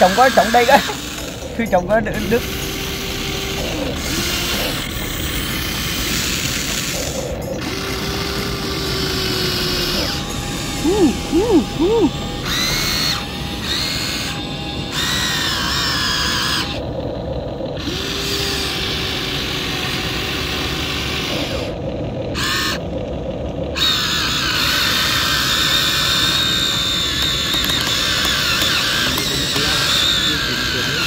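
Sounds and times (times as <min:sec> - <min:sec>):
toy excavator motors whining: 0:00.0 - 0:31.0.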